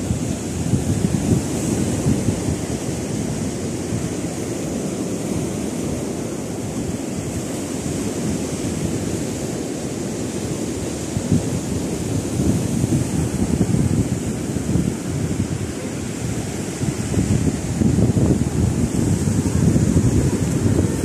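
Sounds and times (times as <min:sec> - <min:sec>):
surf breaking on shore: 0:00.0 - 0:21.0
wind buffeting microphone: 0:00.0 - 0:21.0.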